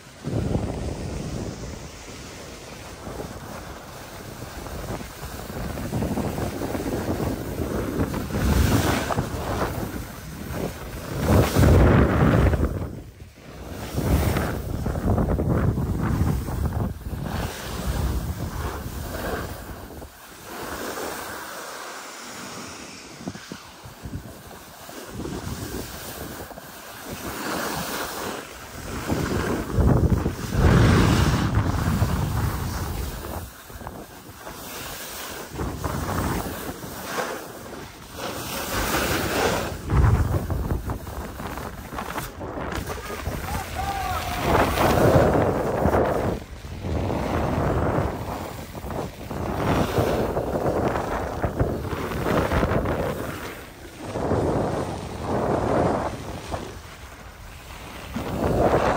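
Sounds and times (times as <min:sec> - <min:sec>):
wind rushing over microphone: 0:00.0 - 0:58.9
skis hissing on packed snow: 0:00.1 - 0:58.9.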